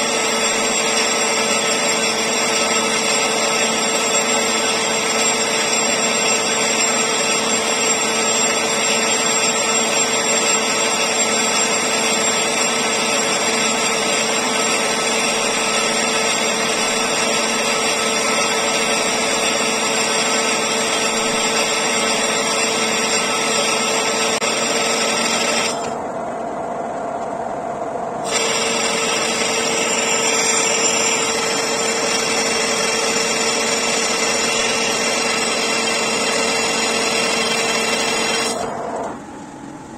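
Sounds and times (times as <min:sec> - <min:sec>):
lathe tool cutting metal: 0:00.0 - 0:26.0, 0:28.2 - 0:39.1
lathe humming: 0:00.0 - 0:26.4, 0:28.2 - 0:39.5.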